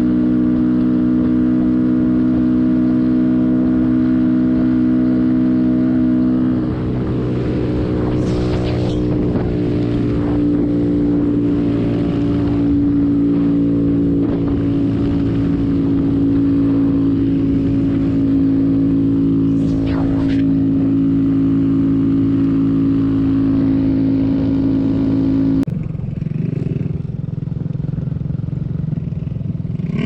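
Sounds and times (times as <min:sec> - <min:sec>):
motorcycle engine running: 0:00.0 - 0:30.0
wind noise from riding: 0:00.0 - 0:30.0.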